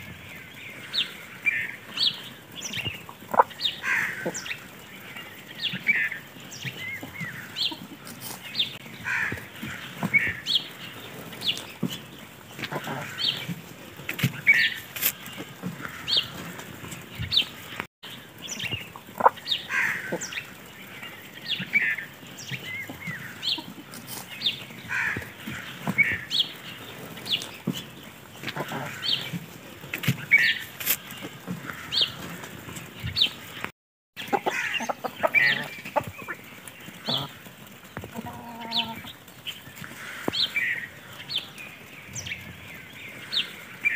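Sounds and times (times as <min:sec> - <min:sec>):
hens clucking: 0:00.0 - 0:17.9, 0:18.5 - 0:41.6.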